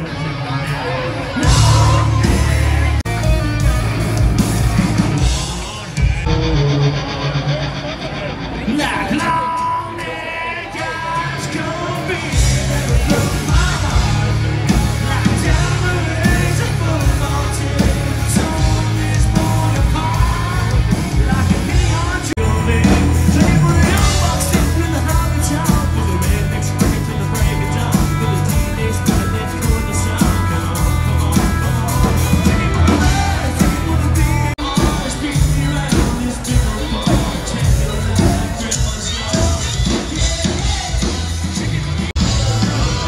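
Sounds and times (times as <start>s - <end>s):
heavy bass line: 0.0s - 10.2s, 12.0s - 43.0s
loud rock music with singing: 0.0s - 43.0s.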